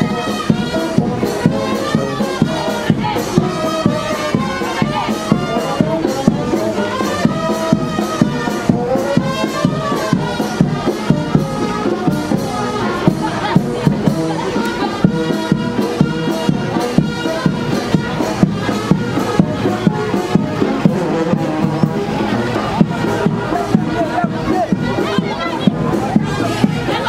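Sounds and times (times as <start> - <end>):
brass band music: 0.0 - 27.0
steady drumbeat: 0.0 - 27.0.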